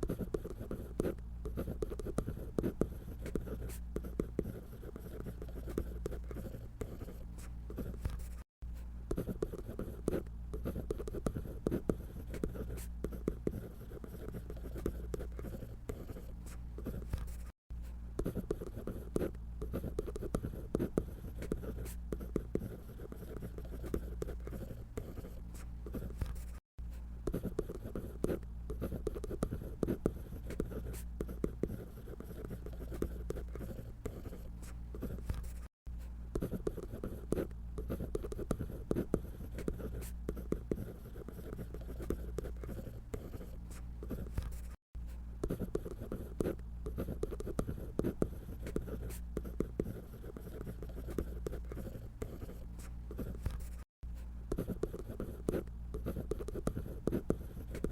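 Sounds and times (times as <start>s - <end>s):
drawing tool scratching paper: 0.0s - 8.5s, 9.1s - 17.6s, 18.2s - 26.6s, 27.2s - 35.7s, 36.3s - 44.8s, 45.4s - 53.9s, 54.5s - 57.9s.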